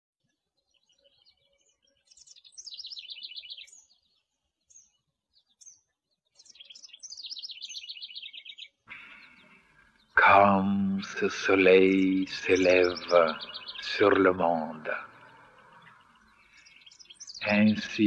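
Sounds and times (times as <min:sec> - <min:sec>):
songbirds singing: 0:00.2 - 0:18.0
short bird chirps: 0:00.6 - 0:10.2, 0:12.1 - 0:18.0.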